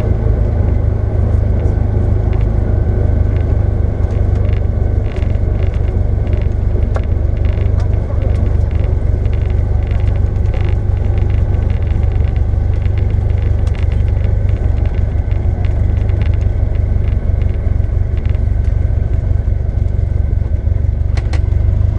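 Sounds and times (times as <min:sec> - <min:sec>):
vehicle rumbling: 0:00.0 - 0:21.9.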